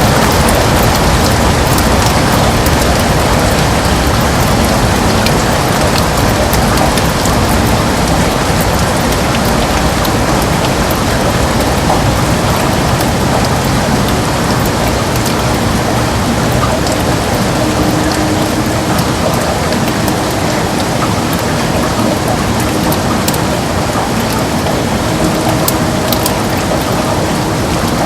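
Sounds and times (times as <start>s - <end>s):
heavy rain on window glass: 0.0s - 28.0s
raindrop ticks: 0.0s - 28.0s.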